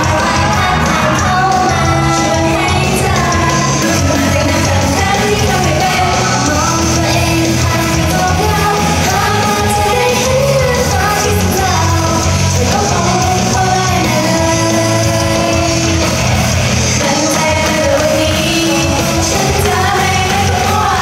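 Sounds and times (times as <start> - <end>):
pop-rock band playing: 0.0 - 21.0
woman singing: 0.0 - 21.0.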